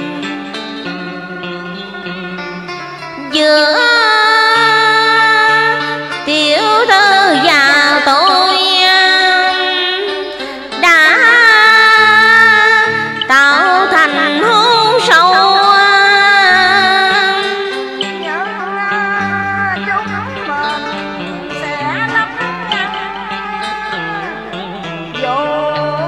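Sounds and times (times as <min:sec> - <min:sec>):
karaoke backing track: 0:00.0 - 0:26.0
woman singing long held notes: 0:03.2 - 0:26.0.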